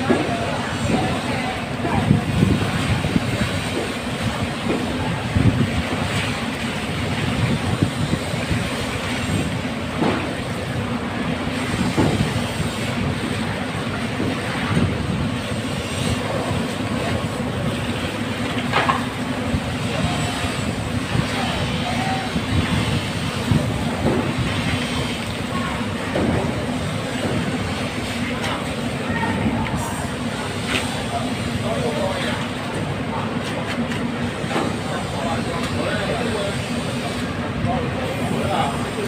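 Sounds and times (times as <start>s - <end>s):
low machine rumble: 0.0s - 39.0s.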